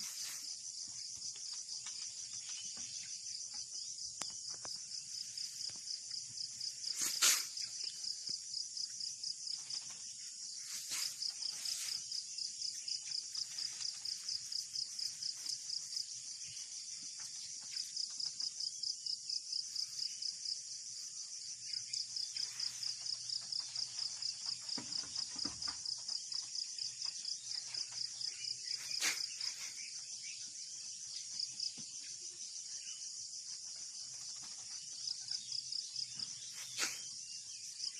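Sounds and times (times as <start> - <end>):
insects chirping trill: 0.0 - 37.9.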